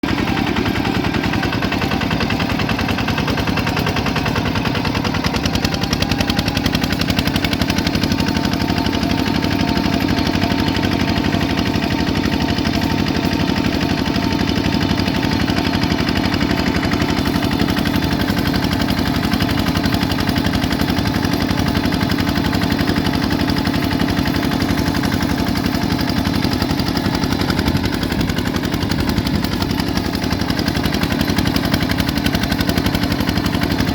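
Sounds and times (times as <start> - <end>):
bulldozer diesel engine clattering: 0.0 - 33.9.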